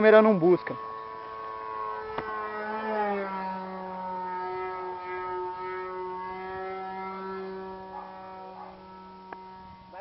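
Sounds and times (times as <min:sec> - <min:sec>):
model plane engine whine: 0:00.0 - 0:10.0.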